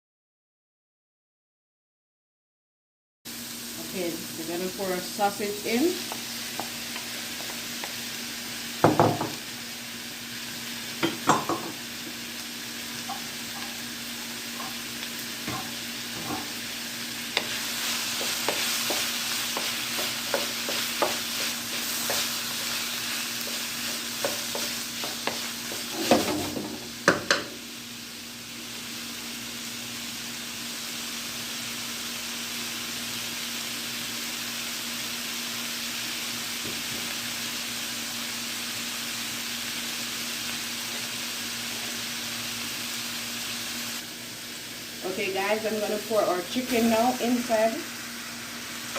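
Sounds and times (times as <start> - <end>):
food sizzling in hot oil: 3.3 - 48.9.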